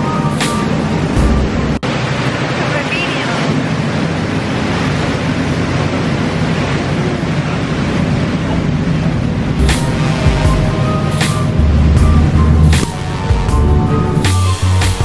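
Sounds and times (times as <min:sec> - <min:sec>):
boat engine droning: 0:00.0 - 0:15.0
water rushing: 0:00.0 - 0:15.0
wind: 0:00.0 - 0:15.0.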